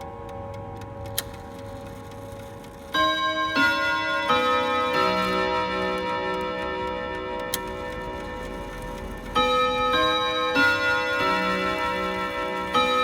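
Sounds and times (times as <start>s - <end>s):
clock chime melody: 0.0s - 13.0s
clock tick: 0.0s - 13.0s.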